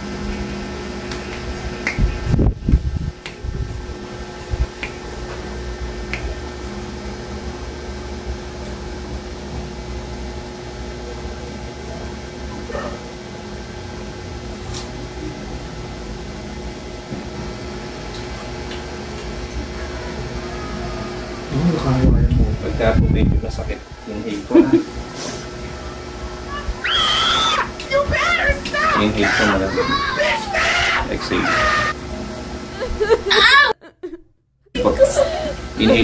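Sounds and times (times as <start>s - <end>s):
appliance humming: 0.0s - 36.0s.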